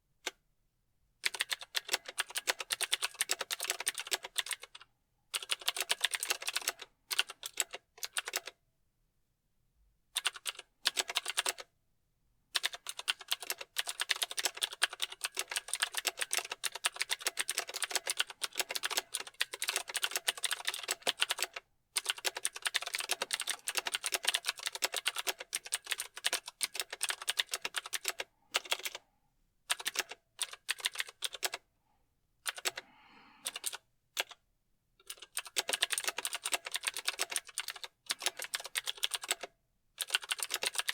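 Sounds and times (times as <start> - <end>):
mechanical keyboard typing: 1.2 - 8.6, 10.2 - 11.7, 12.6 - 29.0, 29.7 - 31.6, 32.4 - 32.8, 33.4 - 34.4, 35.0 - 40.9.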